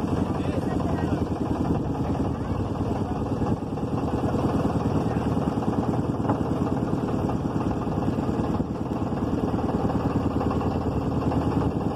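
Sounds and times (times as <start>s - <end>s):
motorboat engine running: 0.0s - 11.9s.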